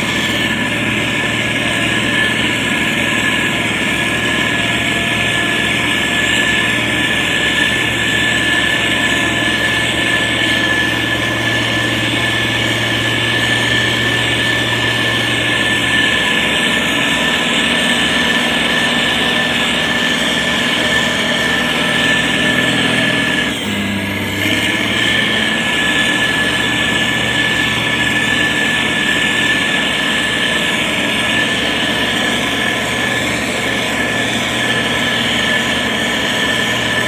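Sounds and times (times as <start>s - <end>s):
diesel engine running: 0.0s - 37.0s
high whine: 0.0s - 37.0s.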